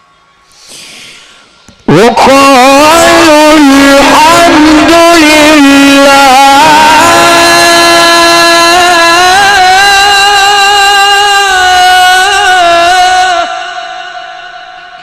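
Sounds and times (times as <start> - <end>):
man reciting in long ornamented note: 1.9 - 15.0.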